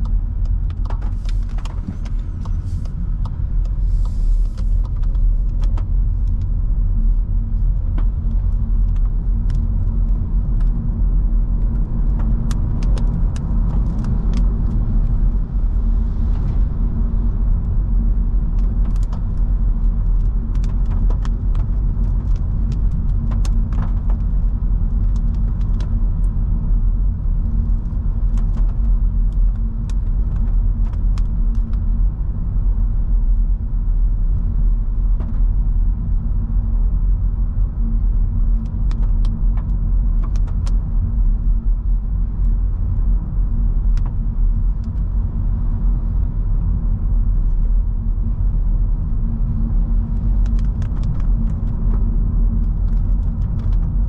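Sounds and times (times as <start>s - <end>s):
car tyres and drivetrain rumble: 0.0s - 54.0s.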